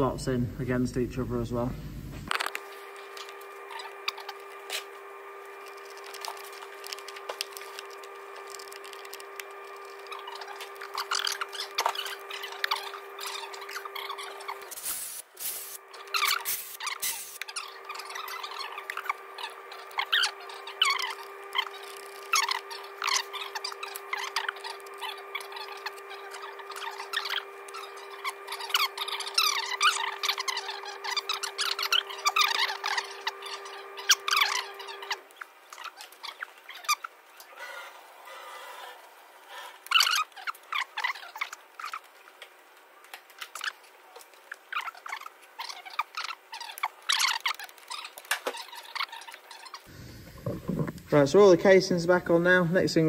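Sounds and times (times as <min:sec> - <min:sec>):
steady hum: 0:00.0 - 0:43.2, 0:45.1 - 0:53.0.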